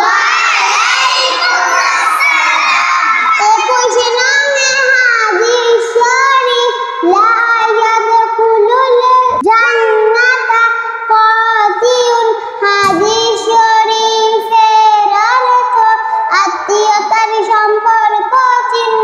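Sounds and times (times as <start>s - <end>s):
girl chanting: 0.0s - 19.0s.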